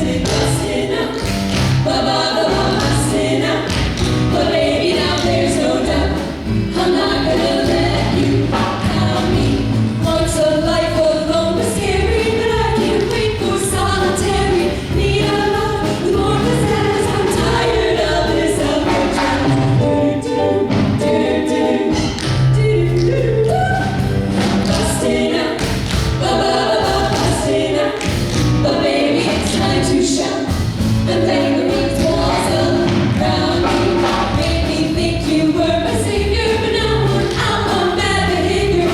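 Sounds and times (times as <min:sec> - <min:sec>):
voices singing over a beat: 0:00.0 - 0:38.9.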